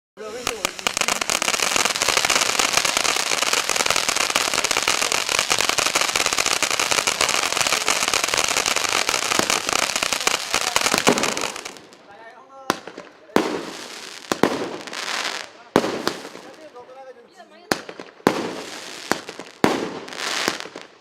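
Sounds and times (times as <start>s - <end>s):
firework fountain crackling: 0.2s - 21.0s.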